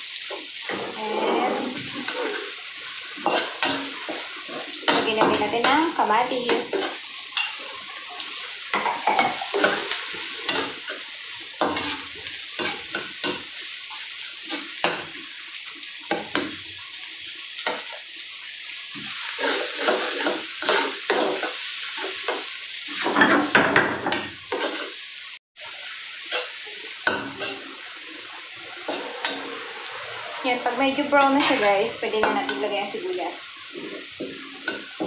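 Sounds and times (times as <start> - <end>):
vegetables sizzling in hot oil: 0.0 - 35.0
spatula scraping a pan: 0.2 - 15.3, 18.9 - 25.1, 26.1 - 30.0, 31.0 - 35.0.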